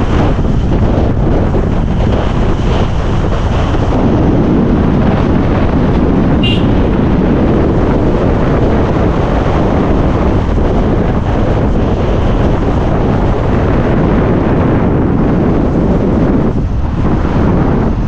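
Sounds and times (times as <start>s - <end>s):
moving vehicle rumble: 0.0s - 18.0s
wind buffeting microphone: 0.0s - 18.0s.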